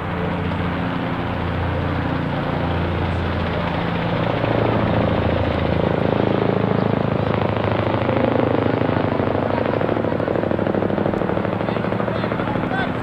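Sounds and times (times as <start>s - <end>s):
engine drone: 0.0s - 13.0s
rapid throbbing: 0.0s - 13.0s.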